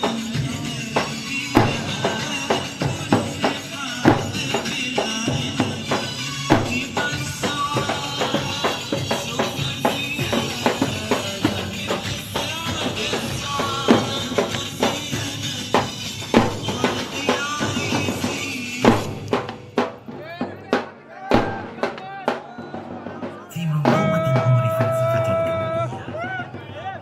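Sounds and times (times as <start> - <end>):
tabl drum beating: 0.0 - 27.0.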